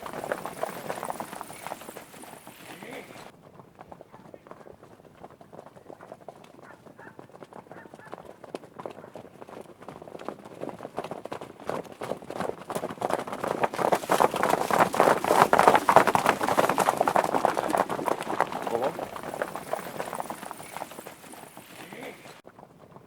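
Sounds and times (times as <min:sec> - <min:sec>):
horses galloping: 0:00.0 - 0:23.0.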